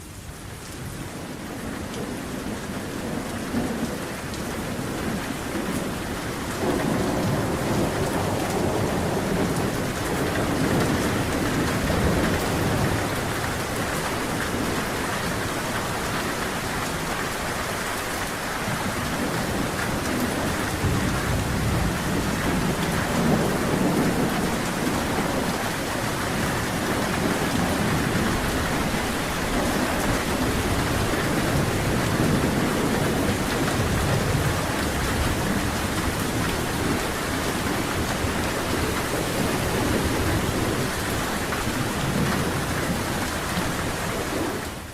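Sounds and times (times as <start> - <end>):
heavy rain falling: 0.0 - 44.9
thunder rumbling: 1.5 - 17.1, 18.4 - 44.8.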